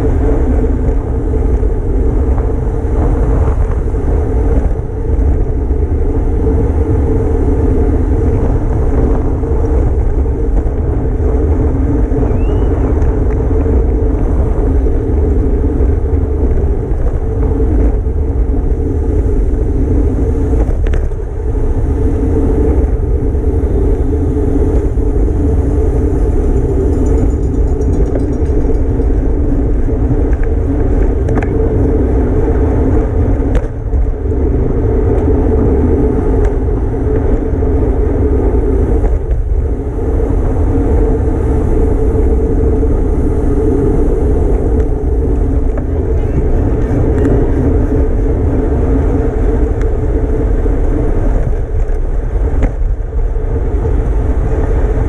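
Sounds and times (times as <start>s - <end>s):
bicycle tyre and road noise: 0.0s - 55.0s
wind rush on microphone: 0.0s - 55.0s.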